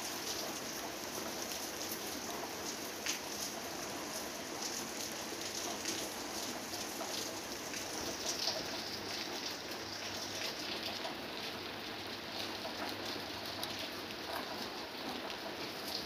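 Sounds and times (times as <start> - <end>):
rain on leaves: 0.0 - 16.0.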